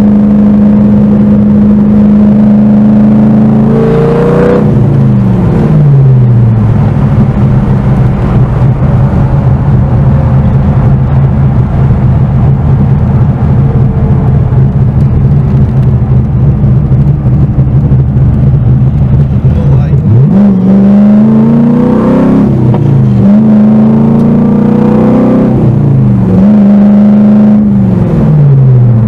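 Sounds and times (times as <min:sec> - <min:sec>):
car engine revs falling: 0:00.0 - 0:29.0.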